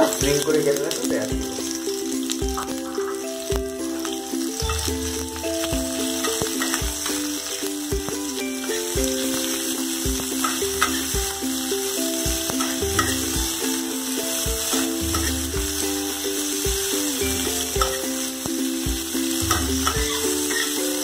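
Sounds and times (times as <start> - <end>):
background music: 0.0 - 21.0
onion rings sizzling in oil: 0.0 - 21.0.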